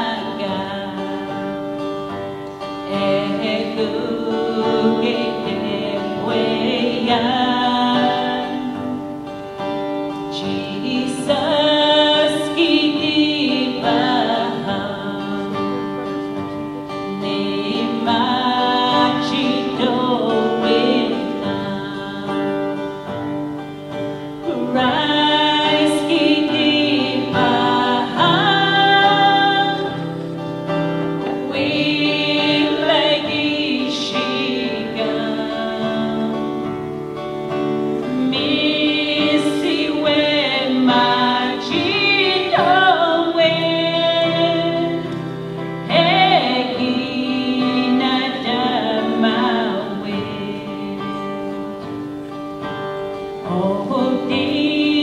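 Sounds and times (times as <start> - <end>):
group of singers: 0.0 - 52.2, 52.8 - 55.0
acoustic guitar: 0.0 - 55.0.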